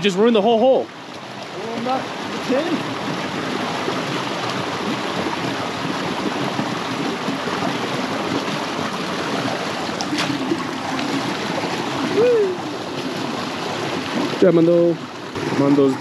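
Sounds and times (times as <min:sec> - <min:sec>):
creek water flowing over rocks: 0:00.0 - 0:16.0.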